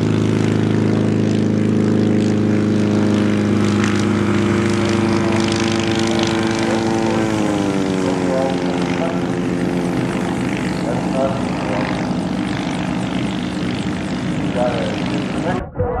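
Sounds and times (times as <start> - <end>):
ultralight plane engine and propeller: 0.0 - 15.7.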